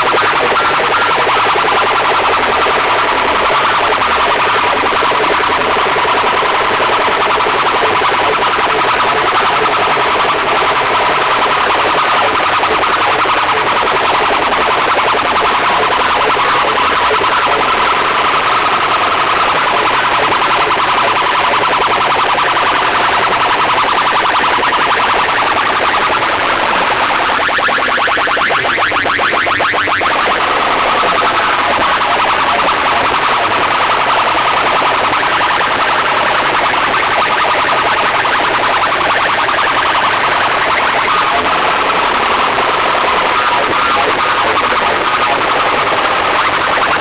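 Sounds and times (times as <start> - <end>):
siren-like electronic tone: 0.0 - 47.0.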